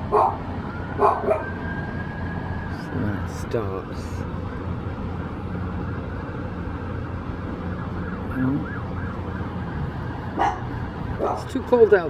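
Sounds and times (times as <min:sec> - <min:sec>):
city traffic rumble: 0:00.0 - 0:12.0
faint emergency siren: 0:00.0 - 0:12.0.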